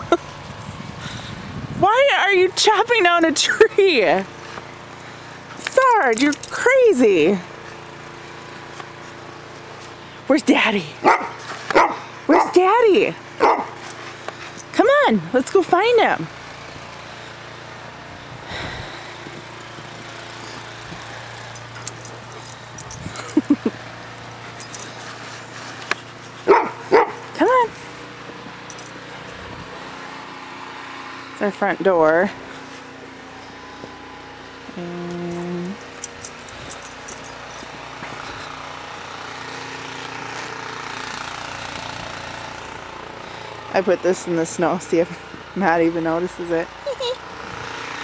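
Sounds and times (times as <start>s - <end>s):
snowblower engine running: 0.0s - 48.0s.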